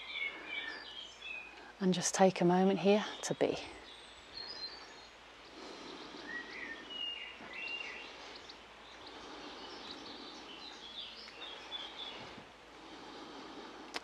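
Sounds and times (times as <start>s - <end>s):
birds chirping and singing: 0.0s - 1.7s, 2.7s - 13.8s
outdoor background hiss: 0.0s - 14.0s.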